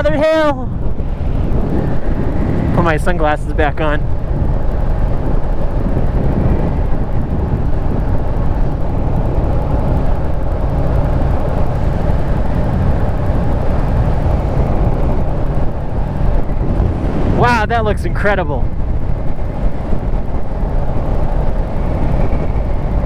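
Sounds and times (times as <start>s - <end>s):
motorcycle running: 0.0s - 23.0s
wind on microphone: 0.0s - 23.0s.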